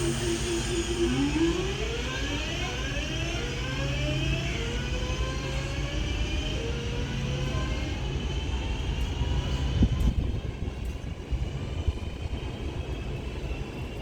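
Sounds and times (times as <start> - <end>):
electric train rumble and motor whine: 0.0 - 14.0.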